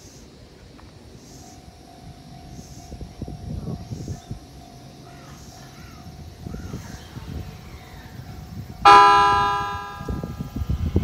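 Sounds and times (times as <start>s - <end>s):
low rumble of electric train: 0.0s - 11.0s
loud ringing signal tone: 1.5s - 10.6s.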